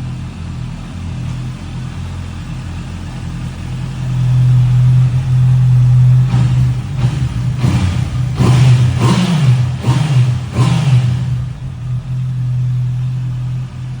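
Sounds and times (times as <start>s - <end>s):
motorcycle engine revving and idling: 0.0s - 14.0s.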